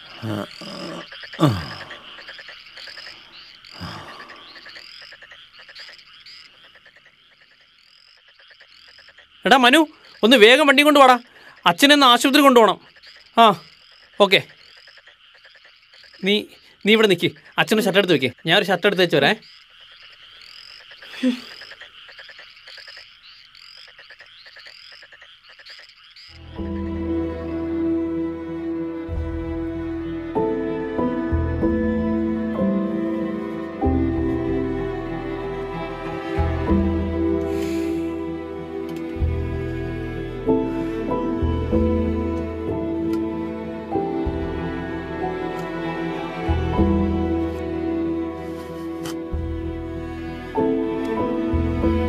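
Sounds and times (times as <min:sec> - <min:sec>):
frogs croaking: 0:00.0 - 0:52.0.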